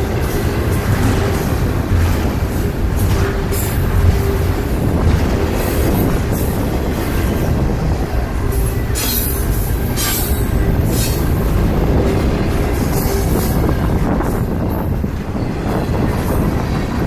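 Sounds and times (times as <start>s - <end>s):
freight train wheels rumbling: 0.0s - 17.0s
wind buffeting microphone: 0.0s - 17.0s.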